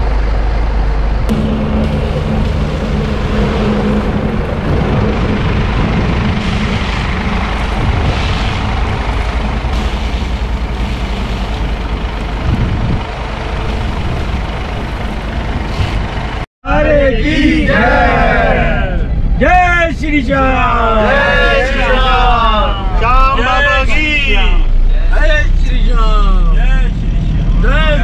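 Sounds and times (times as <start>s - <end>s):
vehicle driving at speed: 0.0s - 16.4s, 20.8s - 28.0s.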